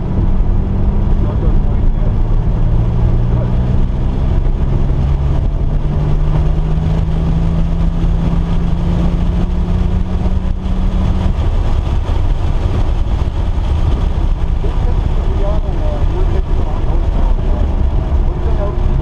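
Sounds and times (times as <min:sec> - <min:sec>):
loud low rumble: 0:00.0 - 0:19.0
vehicle engine running: 0:00.0 - 0:19.0.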